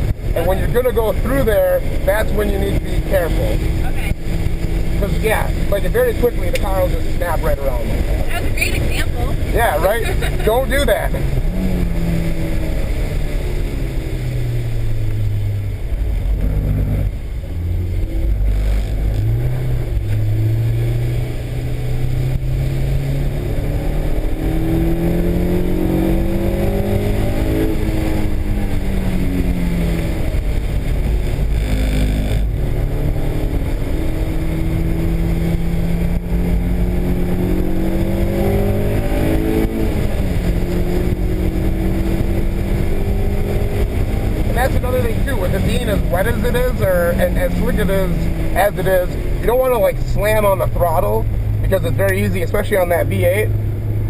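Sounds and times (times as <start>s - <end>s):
car engine accelerating and shifting: 0.0s - 54.0s.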